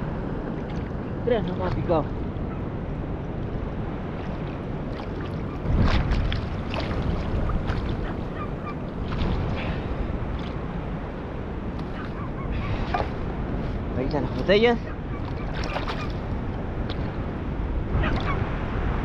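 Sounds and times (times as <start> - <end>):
water sloshing and lapping: 0.0 - 19.0
wind noise on microphone: 0.0 - 19.0.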